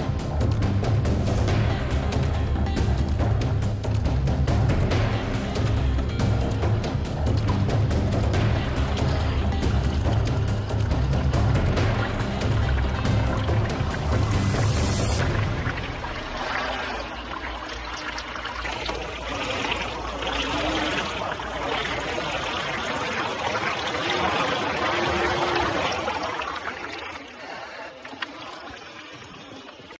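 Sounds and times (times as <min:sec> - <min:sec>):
water churning and splashing: 0:00.0 - 0:30.0.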